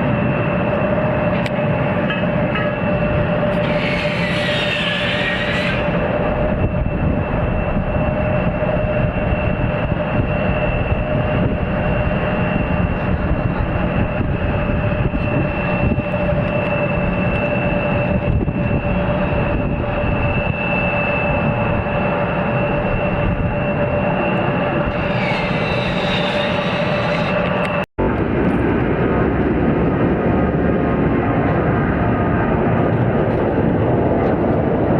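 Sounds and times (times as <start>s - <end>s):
jet engines whining and rumbling: 0.0s - 34.9s.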